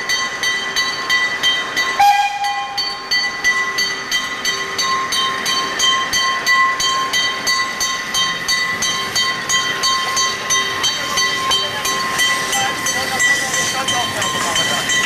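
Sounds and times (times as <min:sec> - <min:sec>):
level-crossing warning bell ringing: 0:00.0 - 0:15.0
steam train rumbling past: 0:00.0 - 0:15.0.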